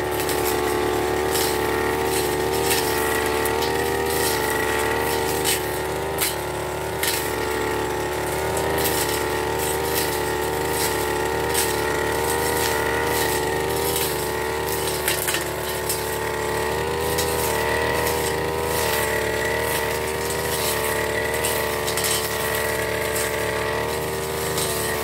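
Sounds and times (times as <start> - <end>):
brush cutter engine running: 0.0 - 25.0.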